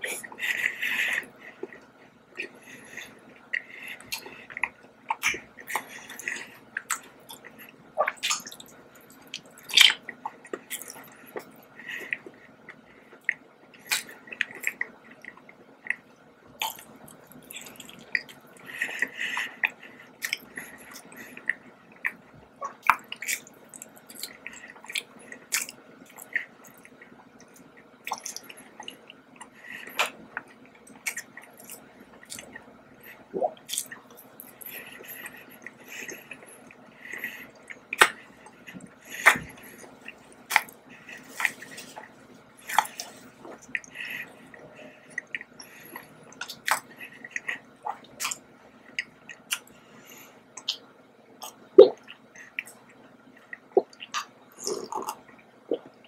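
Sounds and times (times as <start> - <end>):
faint steady hum: 0.0 - 56.0
wet chewing mouth sounds: 0.0 - 56.0.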